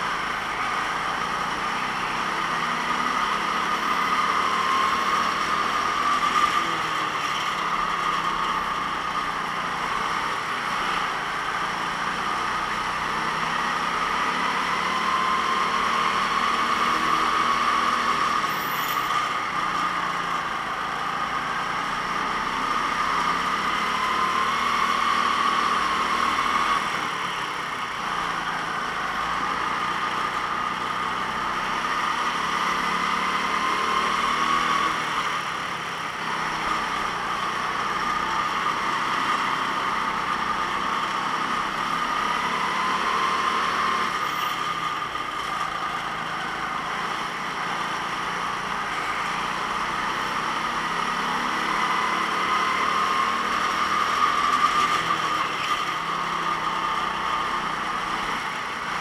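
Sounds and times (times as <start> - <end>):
kart engine running: 0.0 - 59.0.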